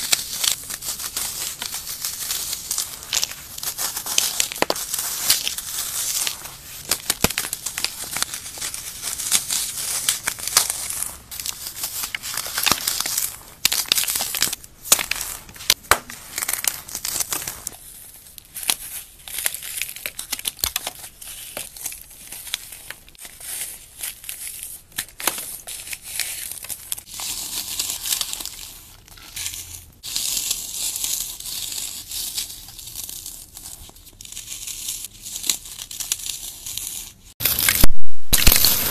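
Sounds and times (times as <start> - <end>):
floral foam crunching: 0.0 - 38.9.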